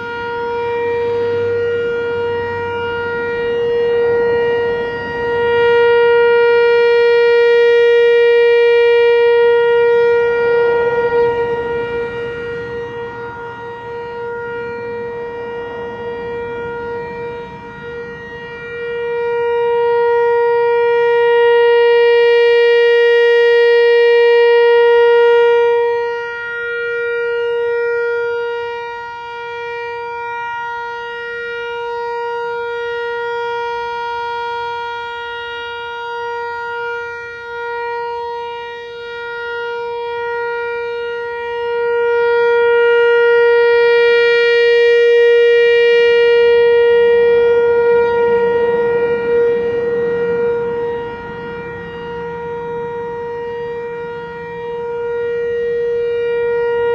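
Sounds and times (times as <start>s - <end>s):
outdoor warning siren steady tone: 0.0s - 56.9s.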